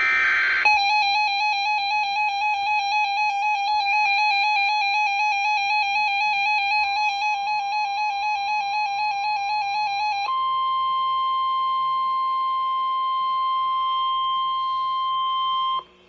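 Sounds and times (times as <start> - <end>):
warbling electronic alarm tone: 0.0 - 15.8.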